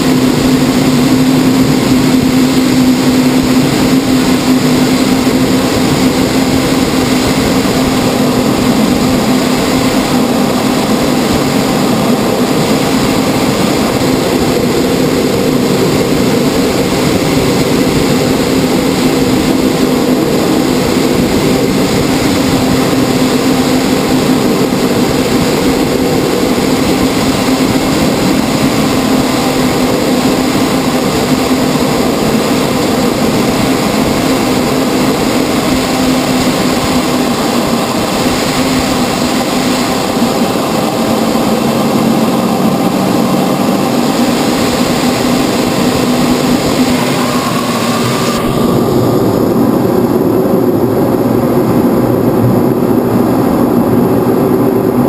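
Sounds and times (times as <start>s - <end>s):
jet cockpit drone: 0.0s - 55.0s.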